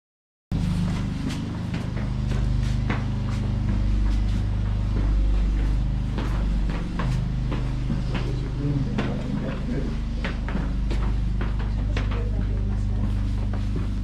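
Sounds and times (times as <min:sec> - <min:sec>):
steady loud low rumble: 0:00.5 - 0:14.0
footsteps on rocky path: 0:00.6 - 0:14.0.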